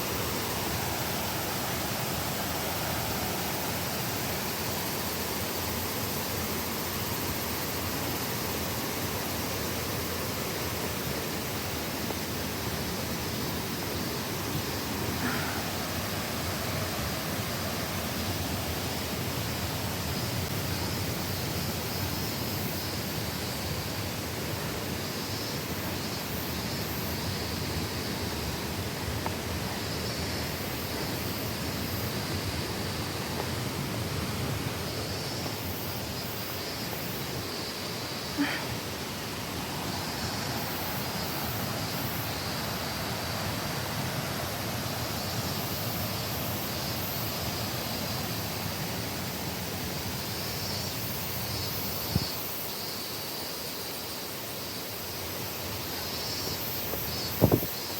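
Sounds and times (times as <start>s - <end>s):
waterfall roar: 0.0s - 50.5s.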